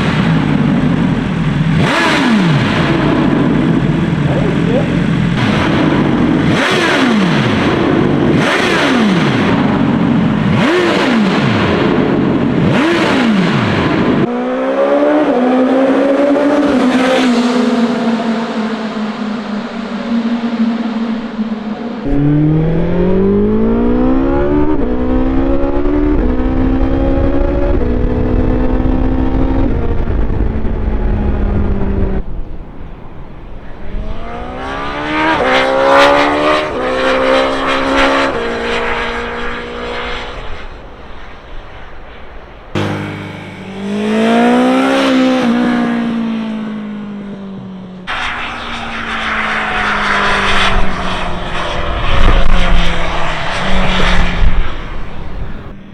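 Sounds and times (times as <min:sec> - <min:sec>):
motorcycle engine accelerating: 0:00.0 - 0:55.9
motorcycle passing by: 0:00.0 - 0:55.9.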